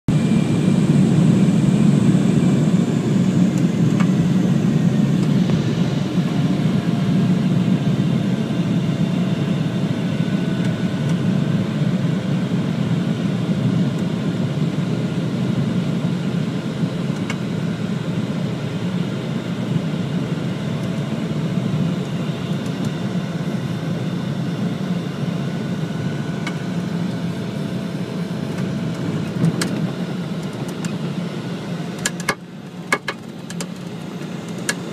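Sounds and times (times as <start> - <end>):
plane engine from inside cabin: 0.1 - 34.9.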